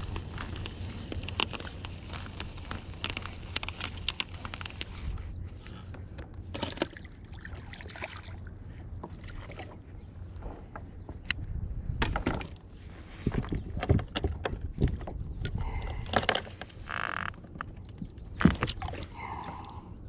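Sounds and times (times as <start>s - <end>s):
wind and water rumble: 0.0s - 20.0s.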